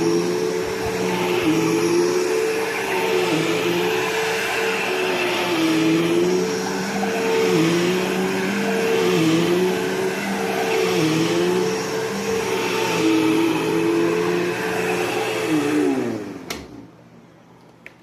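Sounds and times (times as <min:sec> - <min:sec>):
vacuum cleaner motor running: 0:00.0 - 0:16.9.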